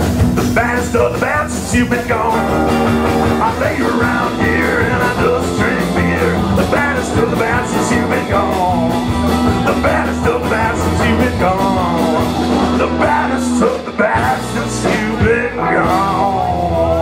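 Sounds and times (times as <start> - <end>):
electric bass: 0.0 - 17.0
electric guitar: 0.0 - 17.0.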